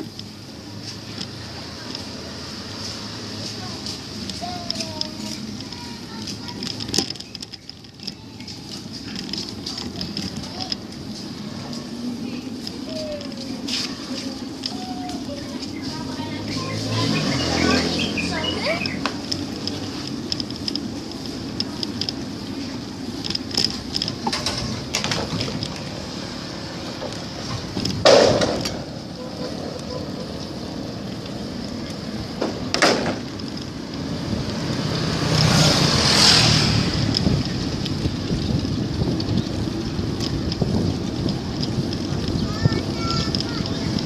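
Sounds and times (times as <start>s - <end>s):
bicycle road noise: 0.0s - 44.0s
rattles and ticks: 0.0s - 44.0s
vehicle passing: 0.0s - 44.0s.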